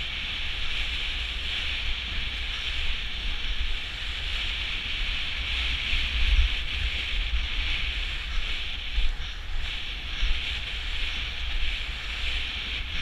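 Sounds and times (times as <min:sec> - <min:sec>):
skate wheels rolling on asphalt: 0:00.0 - 0:13.0
wind buffeting microphone: 0:00.0 - 0:13.0.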